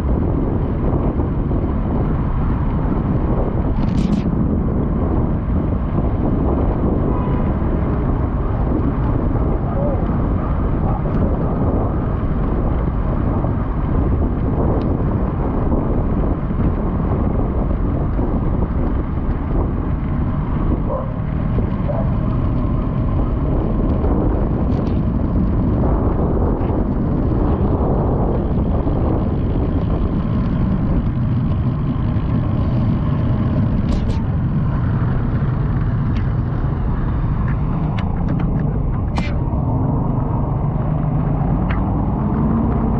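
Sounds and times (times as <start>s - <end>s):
vehicle road noise: 0.0s - 42.9s
wind rushing over microphone: 0.0s - 42.9s.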